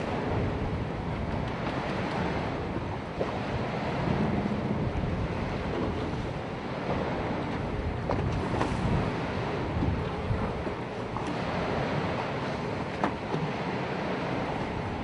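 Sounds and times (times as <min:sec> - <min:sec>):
open sea wash: 0:00.0 - 0:15.0
wind buffeting microphone: 0:00.0 - 0:15.0.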